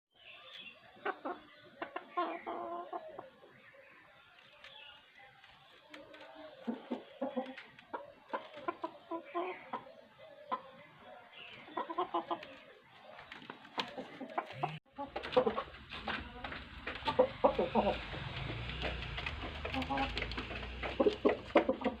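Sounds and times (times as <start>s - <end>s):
chickens clucking: 0.2s - 22.0s.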